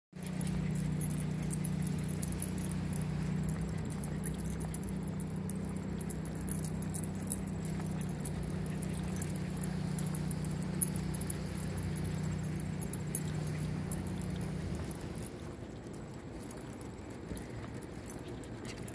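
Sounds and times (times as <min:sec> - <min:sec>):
low hum: 0:00.2 - 0:18.8
tags and leash clips jingling: 0:00.2 - 0:18.9.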